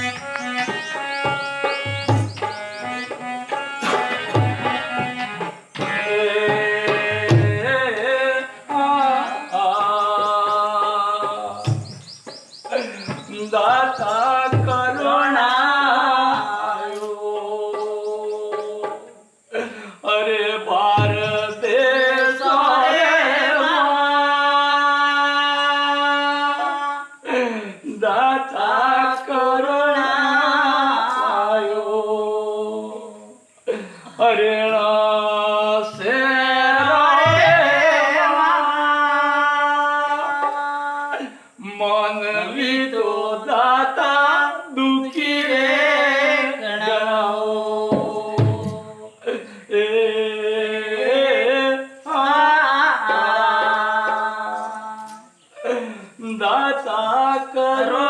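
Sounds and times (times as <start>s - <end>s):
people singing folk song: 0.0s - 58.0s.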